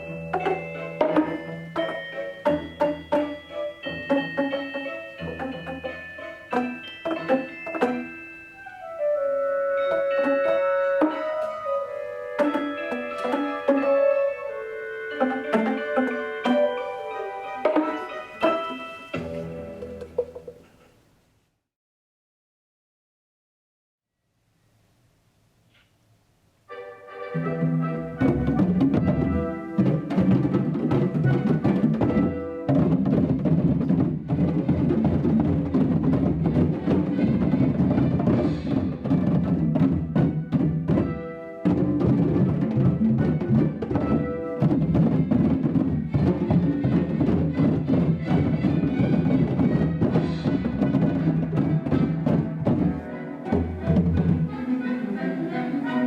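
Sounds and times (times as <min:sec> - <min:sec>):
music with percussive beat: 0:00.0 - 0:08.7, 0:09.8 - 0:14.5, 0:15.1 - 0:20.8, 0:27.4 - 0:54.7.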